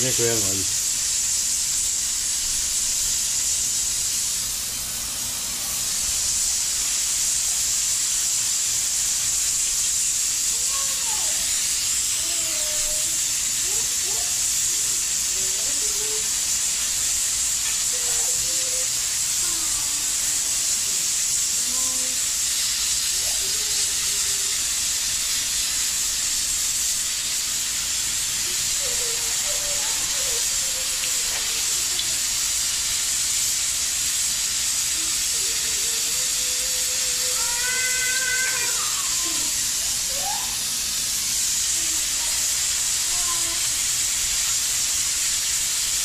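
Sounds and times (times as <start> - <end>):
pressure cooker hissing steam: 0.0 - 46.0.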